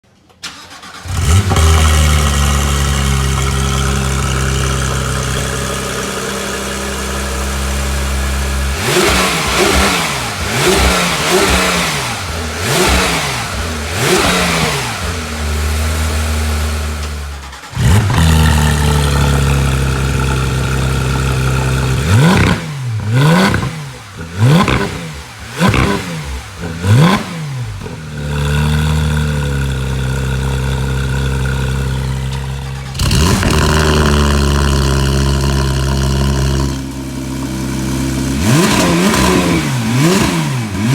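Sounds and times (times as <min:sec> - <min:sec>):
engine throttle blips: 0:00.4 - 0:40.9
sports car engine idling: 0:01.0 - 0:40.9.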